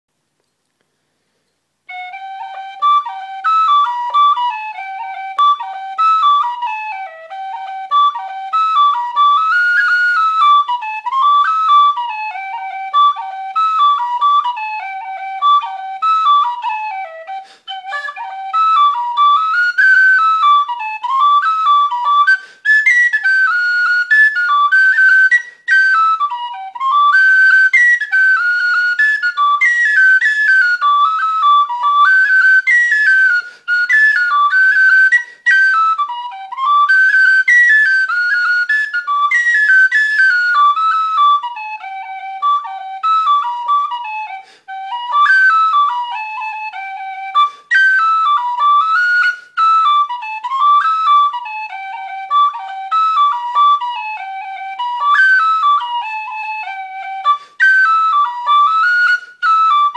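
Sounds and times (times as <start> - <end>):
tin whistle playing a jig: 1.9 - 59.9.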